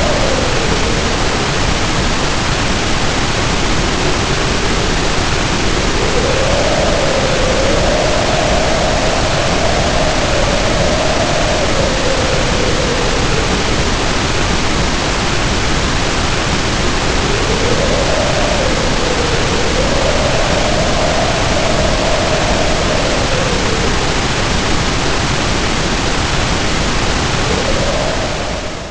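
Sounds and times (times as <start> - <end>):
howling storm wind: 0.0 - 28.9.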